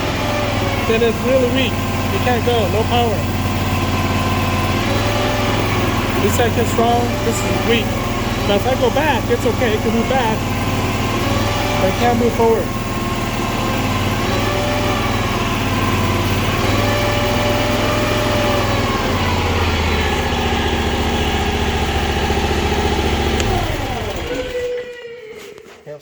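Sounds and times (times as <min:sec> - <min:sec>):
engine running at high revs: 0:00.0 - 0:25.7
hydraulic track drive: 0:00.0 - 0:26.0.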